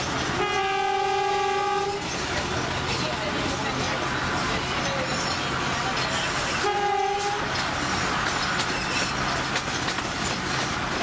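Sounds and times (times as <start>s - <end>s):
train running noise: 0.0s - 11.0s.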